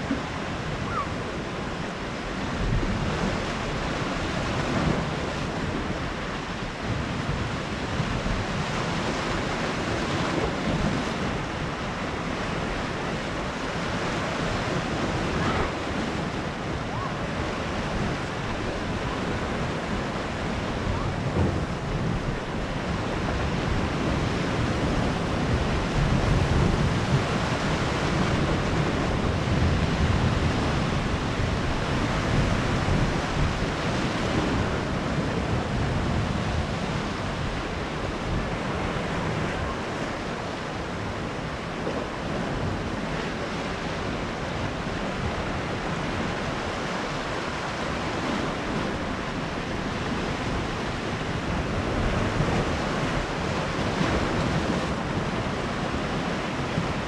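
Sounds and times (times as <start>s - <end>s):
sea waves washing onto shore: 0.0s - 57.0s
wind rumbling on microphone: 0.0s - 57.0s.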